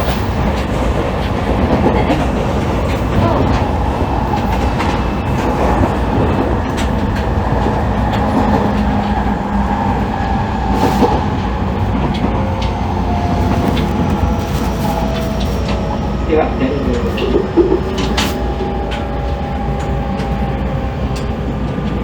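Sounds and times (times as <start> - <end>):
track clicks: 0.0 - 22.0
train wheels rumbling on rails: 0.0 - 22.0.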